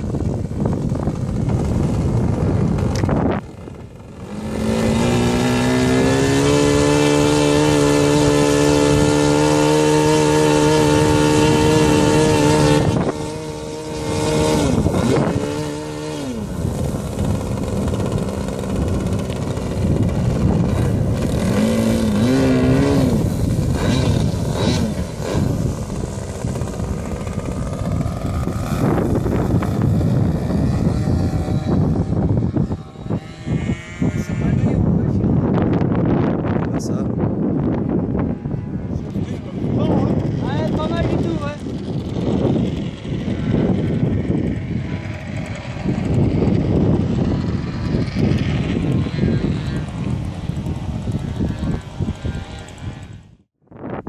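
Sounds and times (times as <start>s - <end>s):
model plane engine running: 0.0s - 53.4s.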